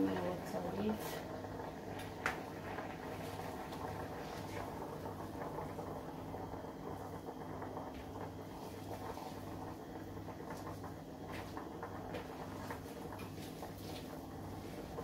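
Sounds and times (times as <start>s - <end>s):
pot crackling and ticking: 0.0s - 15.0s
steady low hum: 0.0s - 15.0s.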